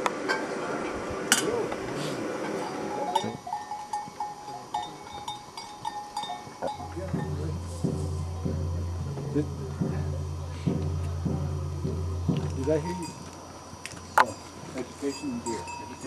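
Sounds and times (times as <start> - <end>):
outdoor din: 0.0 - 16.0
cattle bells clinking: 2.4 - 16.0.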